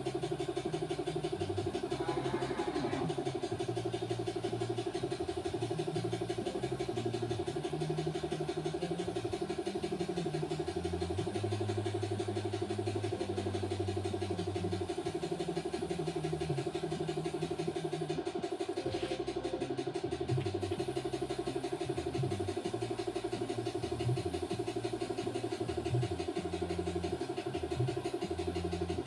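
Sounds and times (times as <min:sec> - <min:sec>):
small motor humming: 0:00.0 - 0:29.0.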